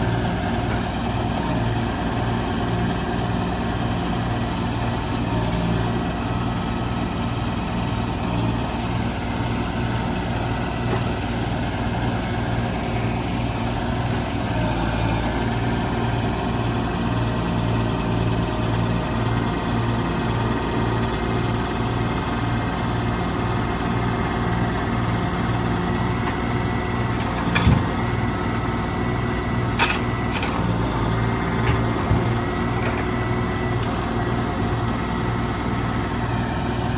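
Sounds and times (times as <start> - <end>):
heavy machinery engine: 0.0 - 36.9.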